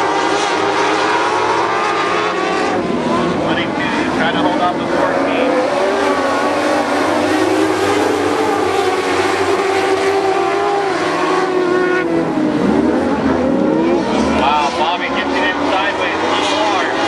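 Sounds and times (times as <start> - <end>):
race car engines racing: 0.0 - 17.0.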